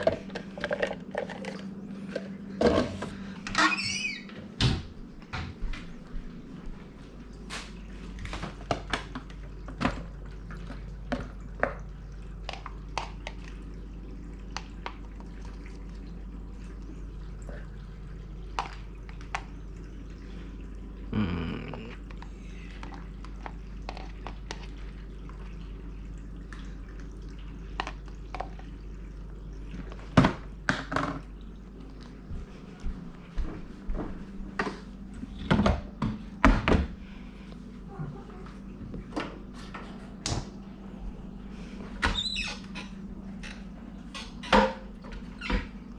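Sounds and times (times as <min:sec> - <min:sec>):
steady low hum: 0:04.3 - 0:45.9.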